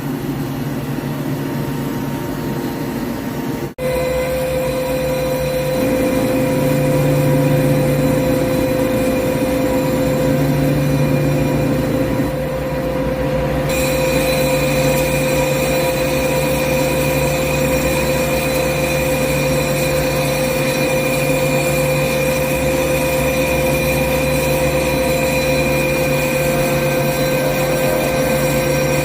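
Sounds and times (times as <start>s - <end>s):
continuous cutting noise: 0.0s - 29.0s
higher whine: 0.0s - 29.0s
lathe mechanical whine: 0.0s - 29.0s.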